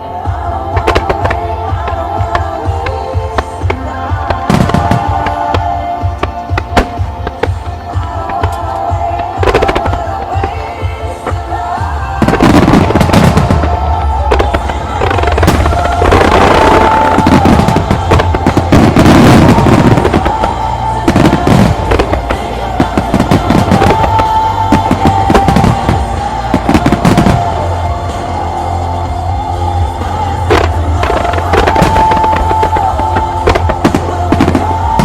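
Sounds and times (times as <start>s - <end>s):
fireworks bursting and crackling: 0.0s - 35.0s
pop-rock music over loudspeakers: 0.0s - 35.0s.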